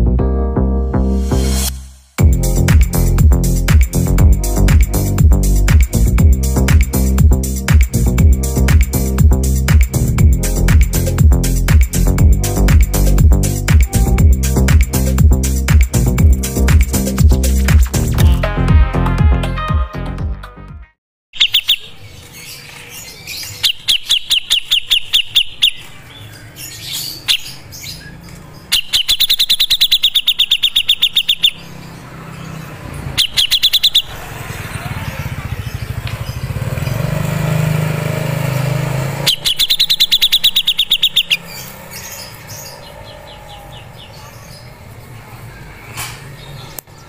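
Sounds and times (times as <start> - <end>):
bird singing rapid high notes: 1.3 - 18.2, 21.4 - 44.7.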